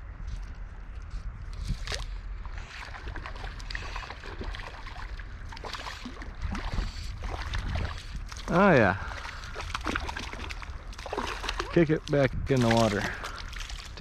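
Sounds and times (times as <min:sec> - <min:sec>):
water splashing and sloshing: 0:00.2 - 0:14.0
river water running: 0:01.7 - 0:14.0.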